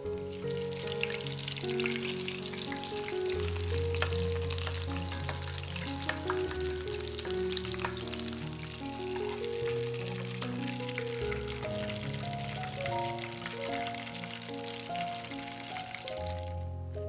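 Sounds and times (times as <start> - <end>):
background music: 0.0 - 17.0
food deep-frying in oil: 0.0 - 17.0.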